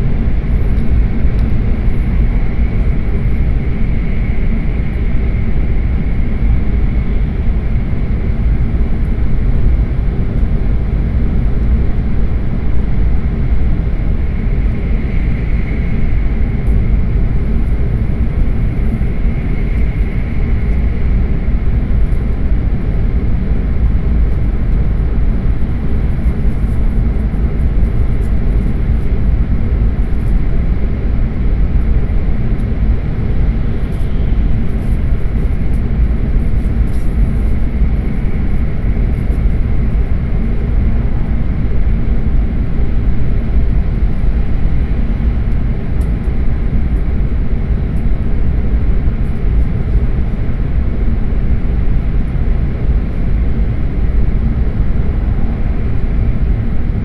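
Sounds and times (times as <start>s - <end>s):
faint high whine: 0.0s - 57.0s.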